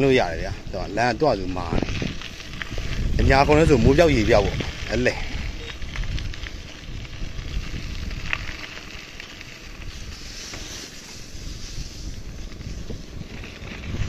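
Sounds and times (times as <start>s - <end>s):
low rumble of bicycle: 0.0s - 14.0s
wind buffeting microphone: 0.0s - 14.0s
small clicks from bike: 1.4s - 14.0s.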